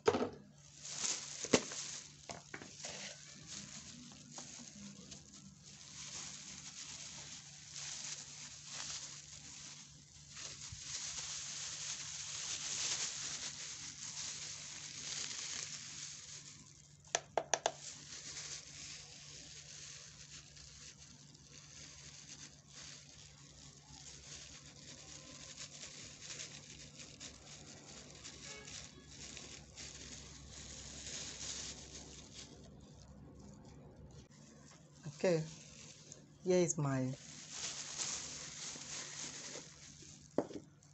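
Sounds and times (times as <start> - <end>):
rustling crinkling: 0.2 - 40.9.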